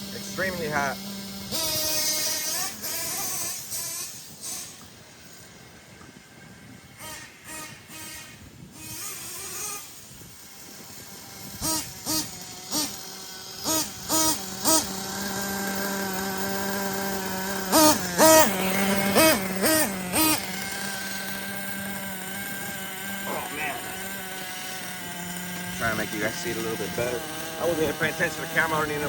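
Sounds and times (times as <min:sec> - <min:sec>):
model engine idling and revving: 0:00.0 - 0:05.8, 0:07.0 - 0:29.0.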